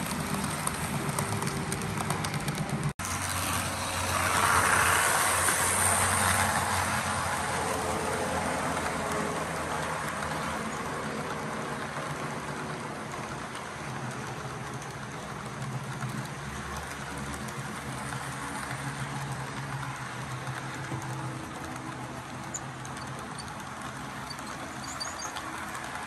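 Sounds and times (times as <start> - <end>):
model train wheels clattering: 4.4 - 26.0.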